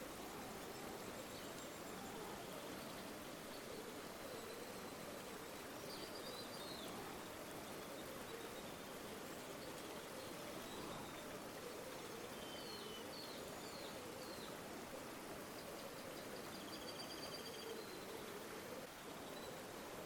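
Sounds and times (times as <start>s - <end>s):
river flowing: 0.0s - 17.0s, 17.6s - 20.0s.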